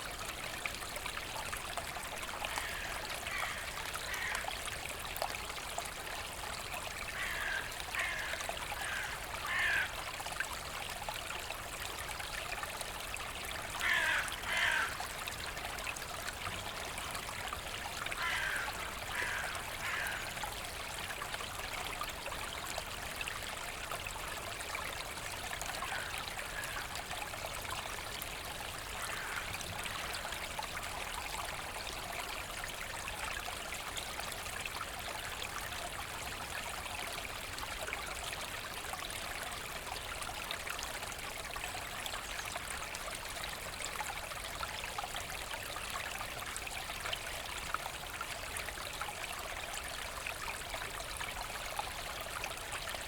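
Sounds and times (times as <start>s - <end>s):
stream trickling and babbling: 0.0s - 53.0s.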